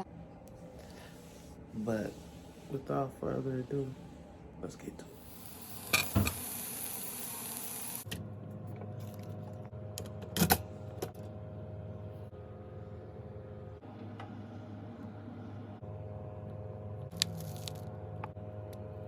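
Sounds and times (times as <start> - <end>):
steady electric hum: 0.0 - 19.0.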